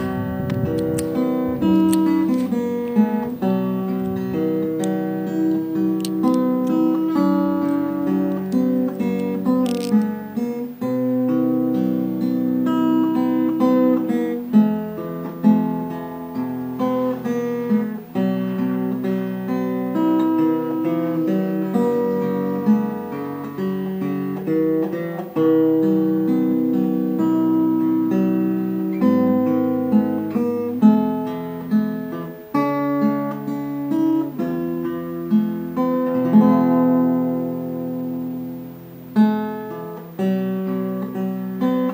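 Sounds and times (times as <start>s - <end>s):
acoustic guitar playing: 0.0s - 41.9s.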